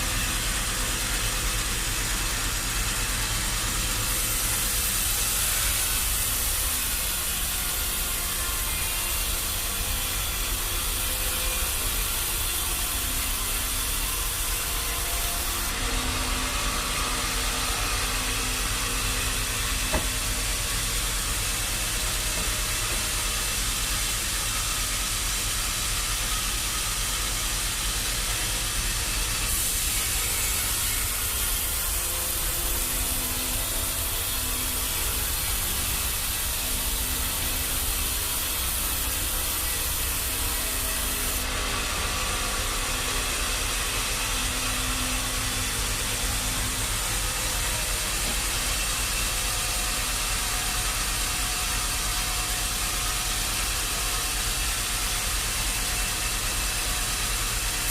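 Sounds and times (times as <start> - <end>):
sawmill machinery hum: 0.0 - 57.9.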